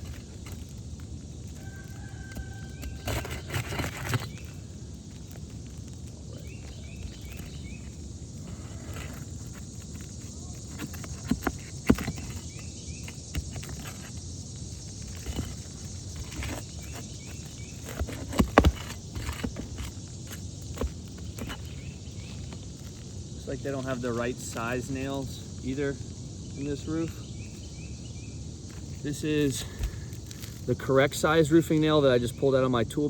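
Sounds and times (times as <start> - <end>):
roof shingles scraping and rustling: 0.0 - 32.4
outdoor background noise: 0.0 - 33.0.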